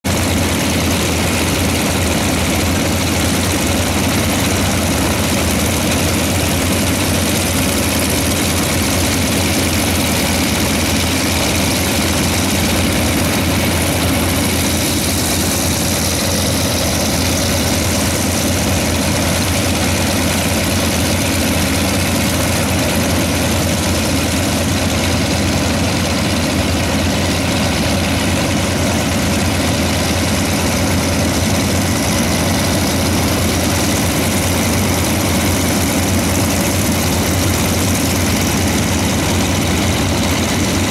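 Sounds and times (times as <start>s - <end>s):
aircraft engines idling: 0.0s - 40.9s.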